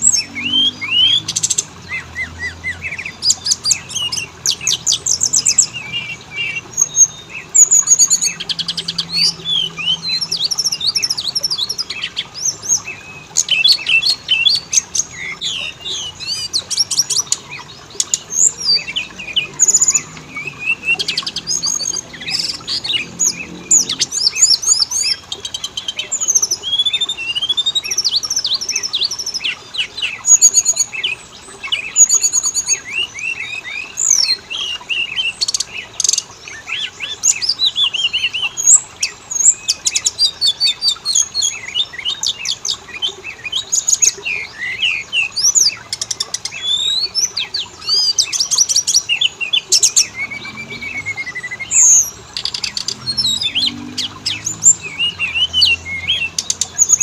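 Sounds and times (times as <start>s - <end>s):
songbird whistling and trilling: 0.0s - 57.0s.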